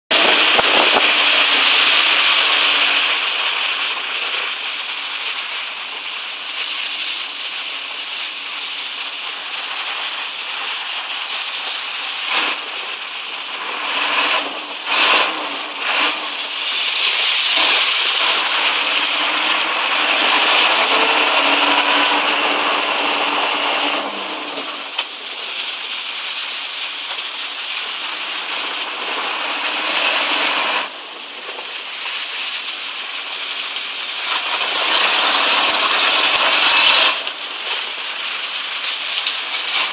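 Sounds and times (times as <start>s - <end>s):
vehicle on wet road hiss: 0.1s - 39.9s.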